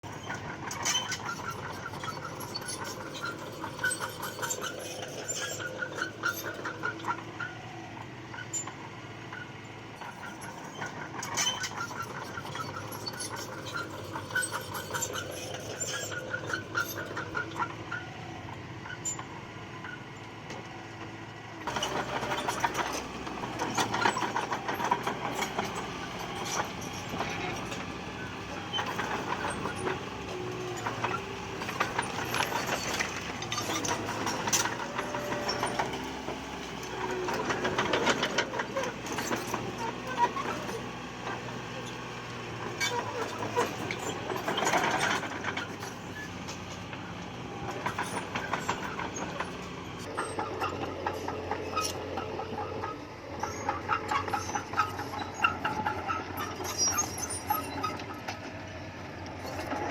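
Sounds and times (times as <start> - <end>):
diesel engine running: 0.0 - 59.9
steel tracks clanking and squeaking: 0.0 - 59.9.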